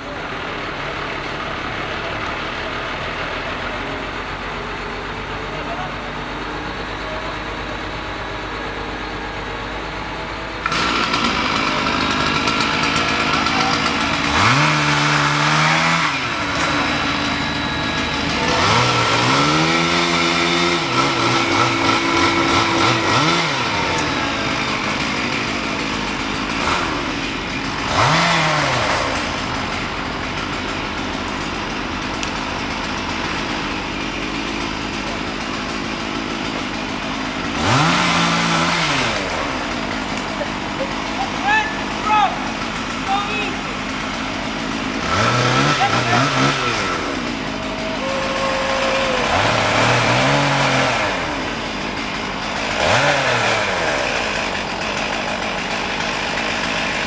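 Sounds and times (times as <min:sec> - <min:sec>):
chainsaw idling and revving: 0:00.0 - 0:57.0
truck engine running: 0:00.0 - 0:57.0.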